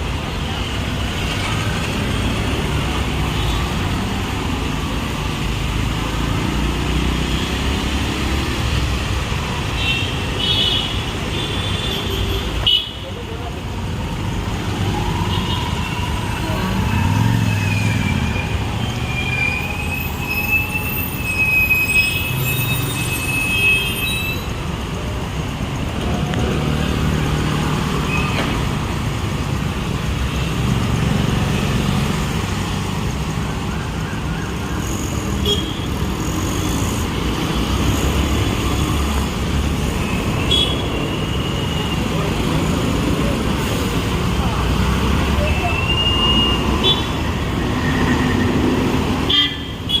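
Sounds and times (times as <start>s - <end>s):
street noise hiss: 0.0s - 50.0s
vehicles passing: 0.0s - 50.0s.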